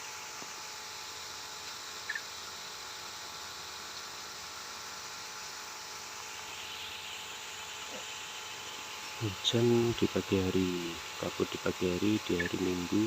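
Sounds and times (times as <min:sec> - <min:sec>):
sprinkler spraying water on leaves: 0:00.0 - 0:13.0.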